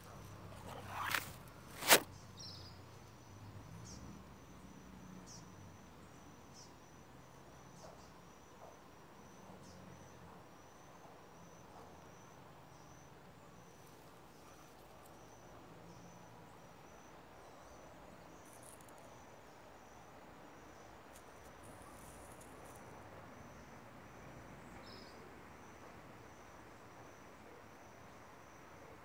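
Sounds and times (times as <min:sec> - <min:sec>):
insect chirping: 0:00.0 - 0:29.0.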